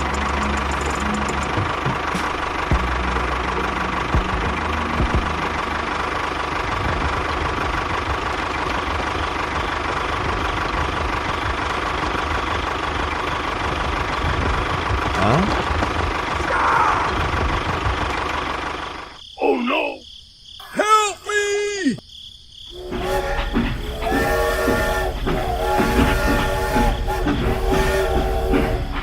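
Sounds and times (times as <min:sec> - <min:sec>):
cartoon engine rumble: 0:00.0 - 0:19.5, 0:22.7 - 0:29.0.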